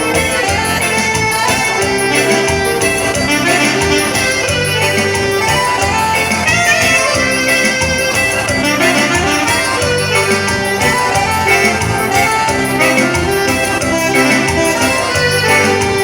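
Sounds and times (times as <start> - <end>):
instrumental dance music: 0.0 - 16.0.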